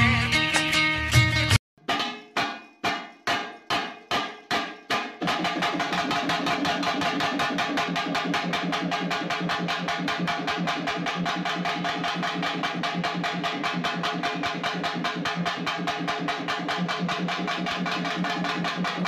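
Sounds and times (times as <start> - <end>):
fast drum rhythm: 1.2 - 19.0
decaying drum strikes: 1.8 - 19.0.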